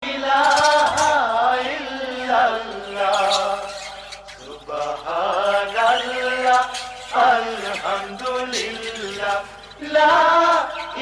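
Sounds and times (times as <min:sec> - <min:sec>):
person singing devotional chant: 0:00.0 - 0:11.0.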